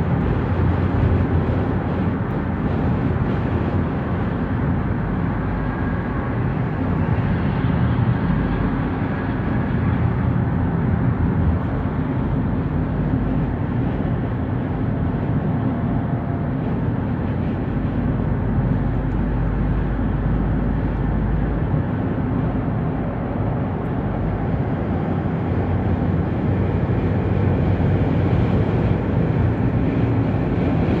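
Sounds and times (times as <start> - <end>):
low road rumble: 0.0 - 31.0
tyre and wind noise: 0.0 - 31.0.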